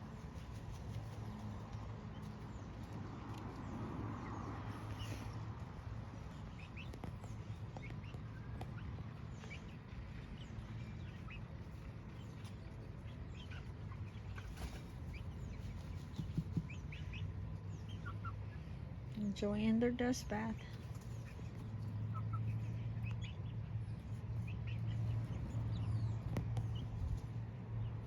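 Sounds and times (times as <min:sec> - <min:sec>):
chickens clucking: 0:00.0 - 0:19.2, 0:20.2 - 0:27.4.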